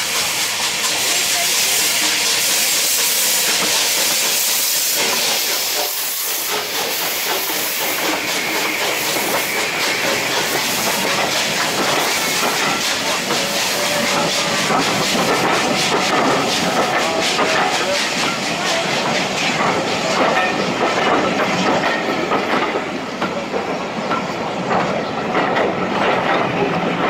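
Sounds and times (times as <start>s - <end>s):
steam locomotive hissing: 0.0s - 27.0s
train wheels clicking over rail joints: 0.0s - 27.0s.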